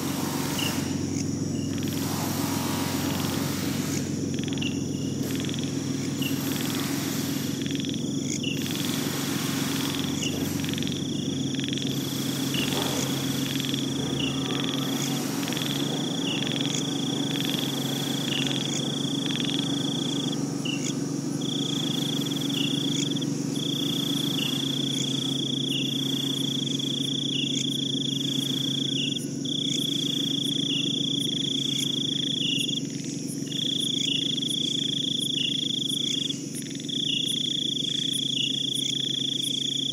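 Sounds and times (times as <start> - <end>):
insect trill: 0.0 - 39.9
low steady hum: 0.0 - 39.9.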